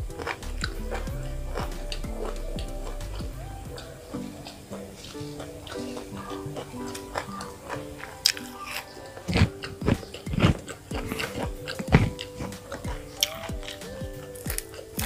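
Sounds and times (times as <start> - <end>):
person chewing and crunching food: 0.0 - 15.0
soft instrumental music: 0.0 - 15.0.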